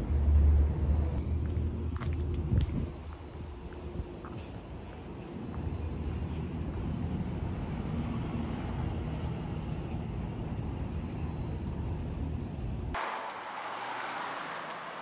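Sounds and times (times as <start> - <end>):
low rumble of vehicle traffic: 0.0 - 15.0.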